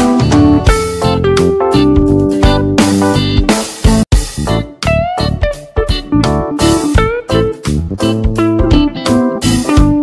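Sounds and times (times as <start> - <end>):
plucked background music with beat: 0.0 - 10.0.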